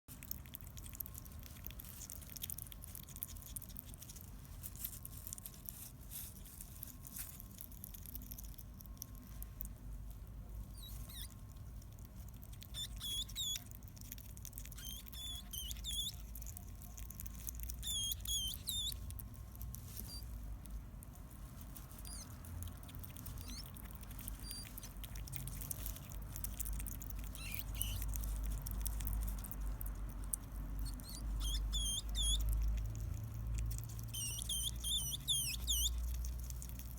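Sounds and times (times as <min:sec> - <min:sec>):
baby hedgehog squeaking: 0:00.1 - 0:36.9.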